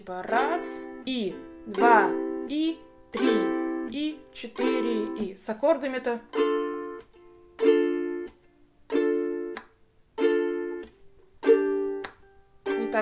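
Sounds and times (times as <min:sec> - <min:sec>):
ukulele strumming with palm mute: 0:00.1 - 0:13.0.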